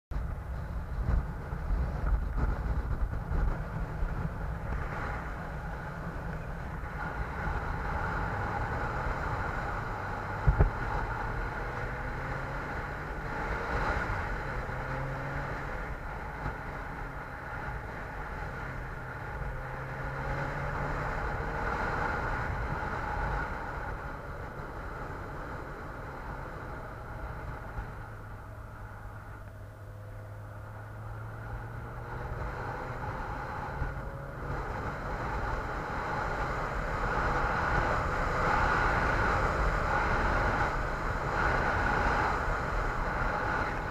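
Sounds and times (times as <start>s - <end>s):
road and wind noise: 0.1s - 43.9s
vehicle engine running: 0.1s - 43.9s.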